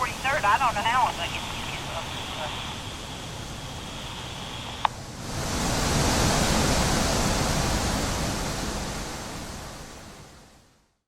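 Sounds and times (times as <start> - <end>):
strong wind gust: 0.0 - 10.7.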